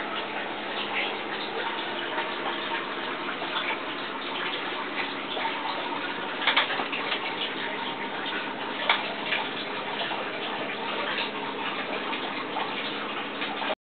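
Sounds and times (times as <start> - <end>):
water trickling and splashing: 0.0 - 13.8.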